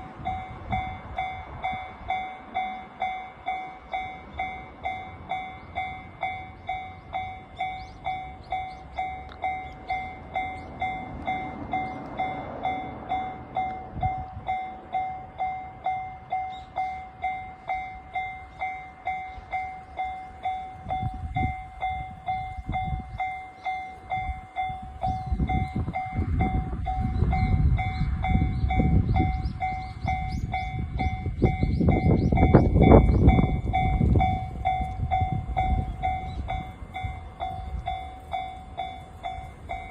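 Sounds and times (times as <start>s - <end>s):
level-crossing warning bell: 0.0s - 39.9s
train passing: 0.0s - 39.9s.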